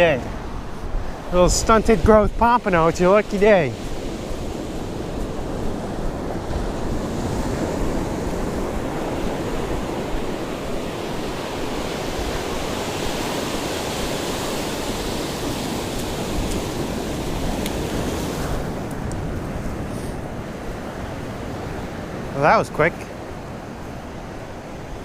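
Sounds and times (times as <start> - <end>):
wind buffeting microphone: 0.0 - 22.4
ocean surf breaking: 0.0 - 25.0.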